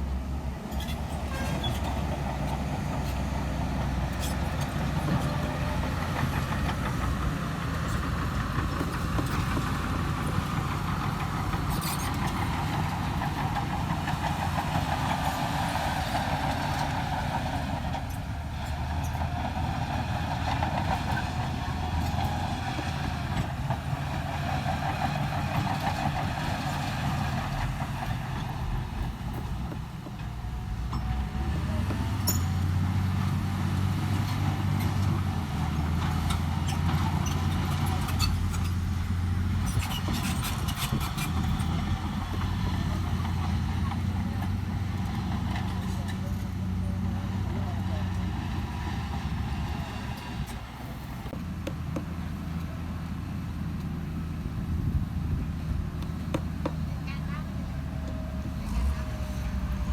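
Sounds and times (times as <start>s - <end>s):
diesel engine of heavy machinery: 0.0s - 59.9s.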